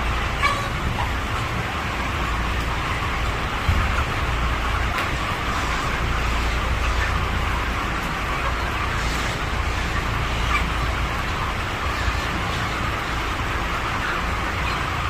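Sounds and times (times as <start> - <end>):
chickens cheeping: 0.0 - 15.0.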